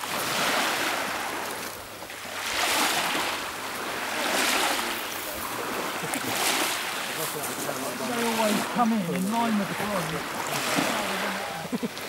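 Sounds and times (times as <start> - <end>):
small waves on pebble beach: 0.0 - 12.0.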